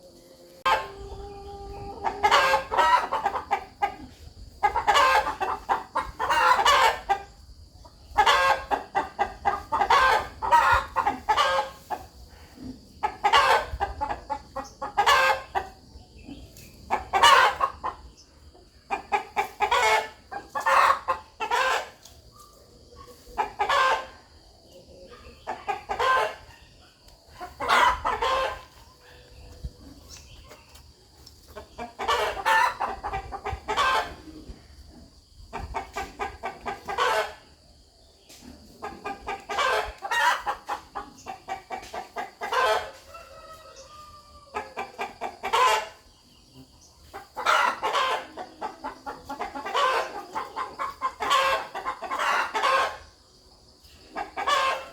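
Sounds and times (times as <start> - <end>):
rooster clucking: 0.6 - 7.4, 8.1 - 18.1, 18.8 - 22.1, 23.0 - 24.2, 25.0 - 26.6, 27.3 - 30.8, 31.4 - 37.6, 38.5 - 46.1, 47.0 - 53.1, 54.1 - 54.9.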